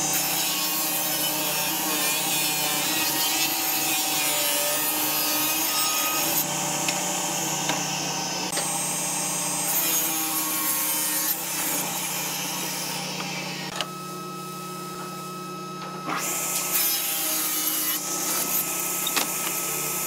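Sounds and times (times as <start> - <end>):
saw motor hum: 0.0 - 20.0
table saw cutting wood: 0.0 - 20.0.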